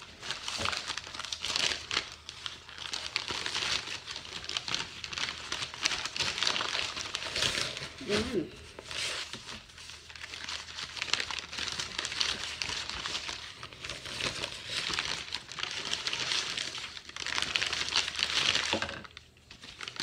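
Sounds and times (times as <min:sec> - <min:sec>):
newspaper crinkling and rustling: 0:00.0 - 0:20.0.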